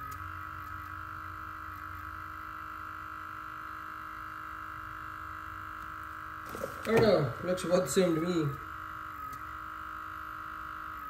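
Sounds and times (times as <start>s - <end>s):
air compressor humming and whining: 0.0s - 11.0s.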